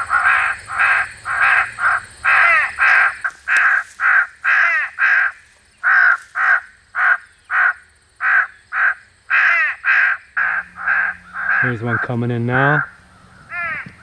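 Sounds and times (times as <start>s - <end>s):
recorded crow caws: 0.0s - 14.0s.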